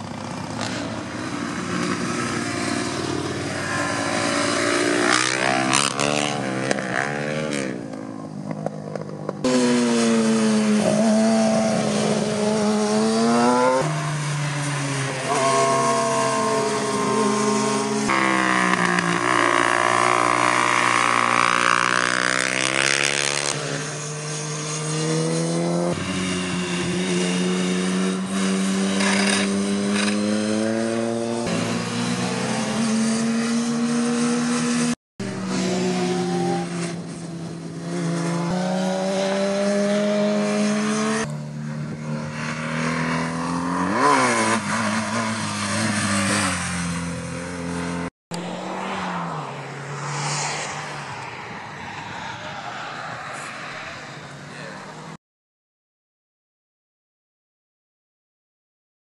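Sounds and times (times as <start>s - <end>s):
motorcycle engines revving: 0.0s - 55.2s.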